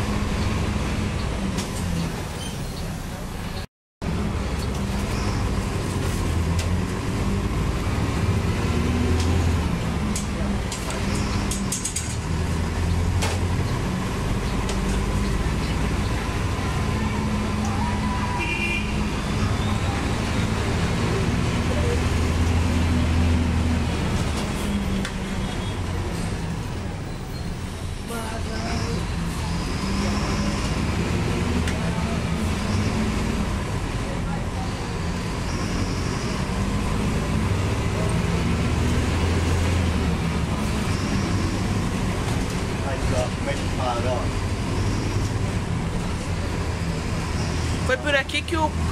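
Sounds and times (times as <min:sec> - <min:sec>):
bus diesel engine running: 0:00.0 - 0:48.9
tyre and road noise: 0:00.0 - 0:48.9.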